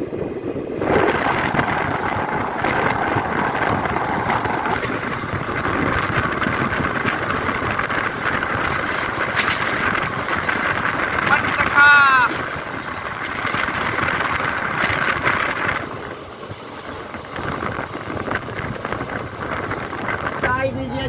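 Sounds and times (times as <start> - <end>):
train wheels rumbling on track: 0.0 - 21.0
wind buffeting microphone: 0.0 - 21.0.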